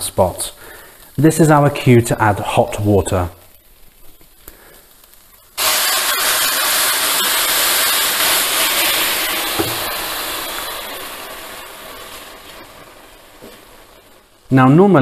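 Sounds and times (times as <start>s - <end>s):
hot water poured into a pan: 0.0s - 14.6s
loud sizzling hiss: 0.0s - 15.0s.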